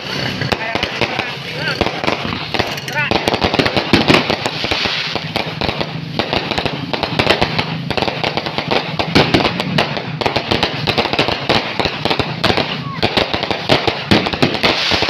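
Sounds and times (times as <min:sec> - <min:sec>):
fireworks cracking and popping: 0:00.0 - 0:15.0.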